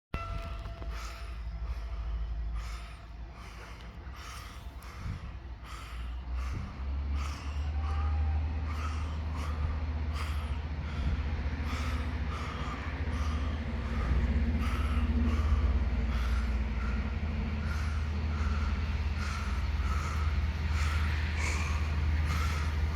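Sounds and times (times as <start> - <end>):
diesel train engine rumble: 0.1 - 22.9.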